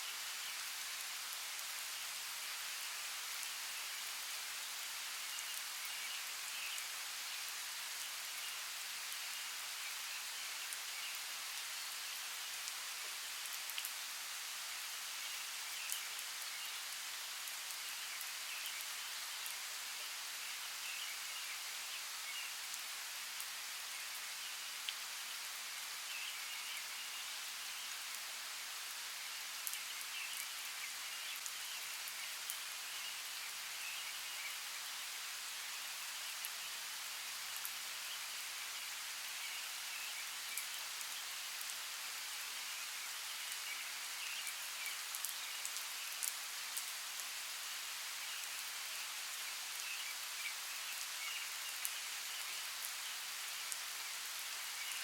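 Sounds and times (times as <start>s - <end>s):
falling rain hiss: 0.0s - 55.0s.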